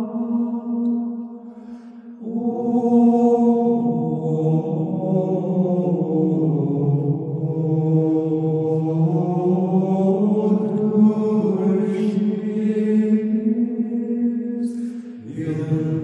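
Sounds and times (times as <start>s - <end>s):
men singing plainchant: 2.2s - 16.0s.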